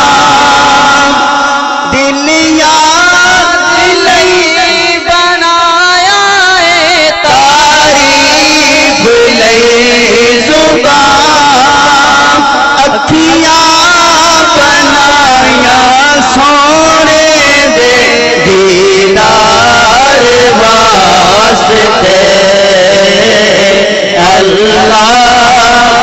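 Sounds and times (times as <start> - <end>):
man singing through a microphone: 0.0 - 26.0.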